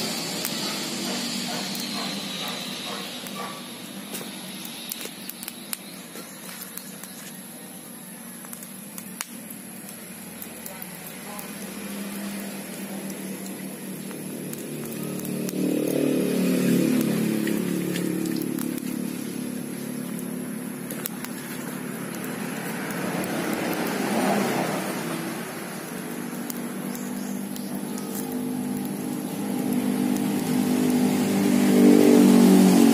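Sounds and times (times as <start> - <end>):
engine running: 0.0 - 32.9.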